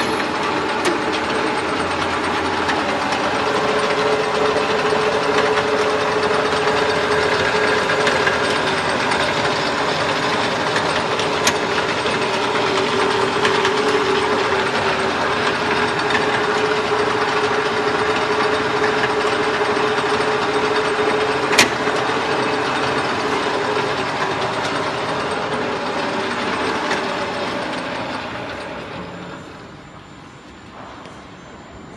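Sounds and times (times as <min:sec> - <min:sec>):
mini lathe whirring: 0:00.0 - 0:30.9.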